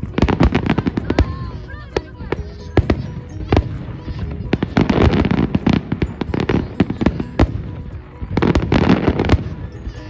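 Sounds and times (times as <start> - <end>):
fireworks bursting with sharp bangs: 0.0 - 10.0.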